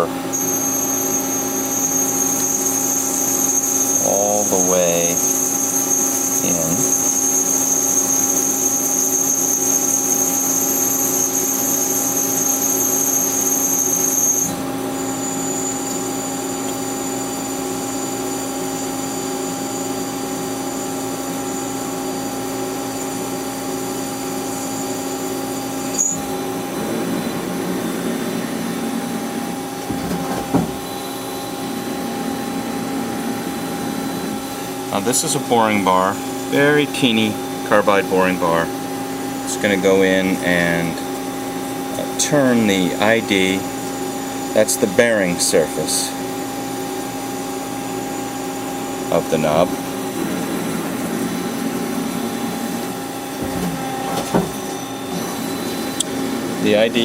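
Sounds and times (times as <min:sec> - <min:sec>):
lathe hum and high whine: 0:00.0 - 0:57.0.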